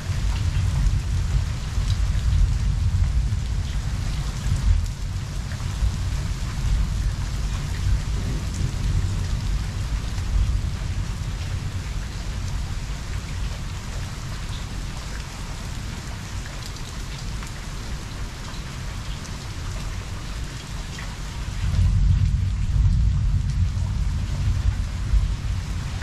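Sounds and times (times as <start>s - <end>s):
low rumble of thunder: 0.0s - 16.2s, 21.3s - 26.0s
close raindrops ticking: 0.0s - 26.0s
heavy rain falling: 0.0s - 26.0s.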